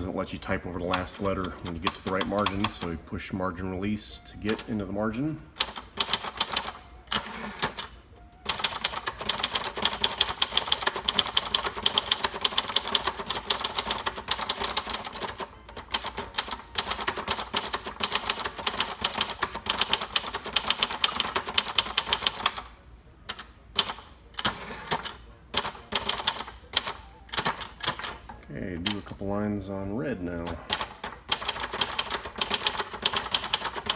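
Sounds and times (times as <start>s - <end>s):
typewriter typing: 0.8s - 3.0s, 5.6s - 22.7s, 23.3s - 28.2s, 30.4s - 33.9s.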